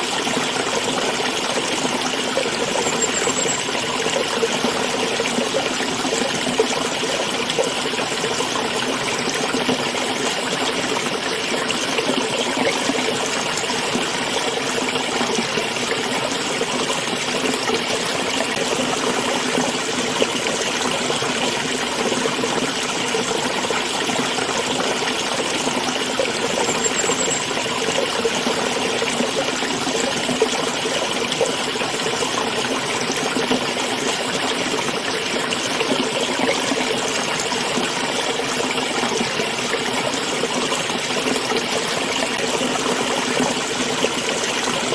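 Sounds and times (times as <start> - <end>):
small stream trickling: 0.0 - 44.9.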